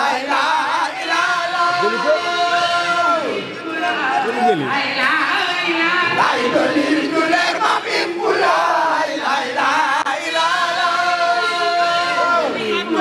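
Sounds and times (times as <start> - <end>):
crowd: 0.0 - 13.0
men chanting: 0.0 - 13.0.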